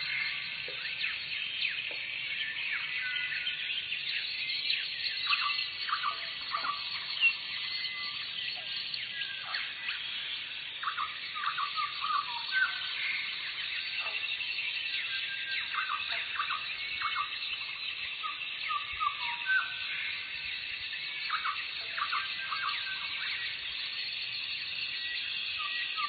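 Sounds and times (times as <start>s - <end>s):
many birds chirping: 0.0s - 26.0s.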